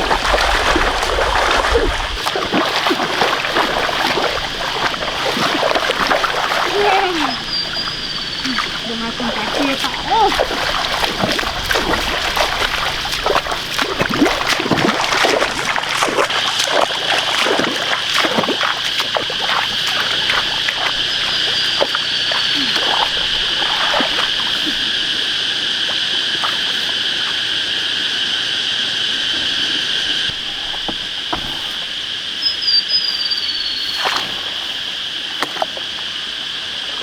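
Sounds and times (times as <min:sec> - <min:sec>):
high insect drone: 0:00.0 - 0:37.0
muddy water splashing: 0:00.0 - 0:37.0.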